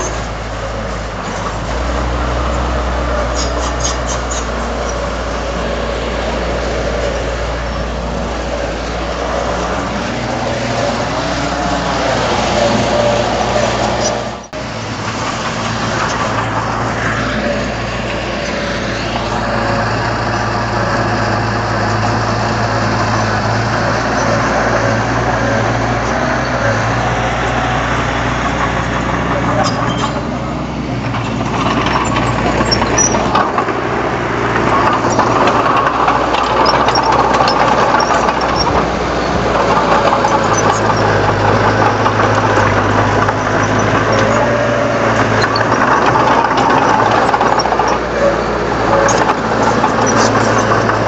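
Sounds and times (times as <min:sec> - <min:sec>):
bulldozer diesel engine under load: 0:00.0 - 0:51.0.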